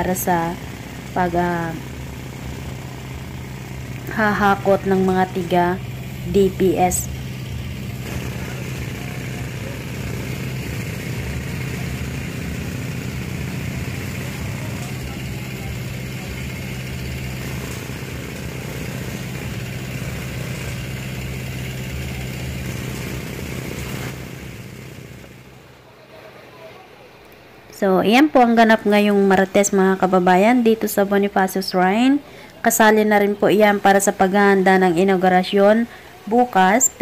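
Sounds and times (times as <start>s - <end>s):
vehicle engine idling: 0.0s - 27.9s, 28.6s - 37.0s.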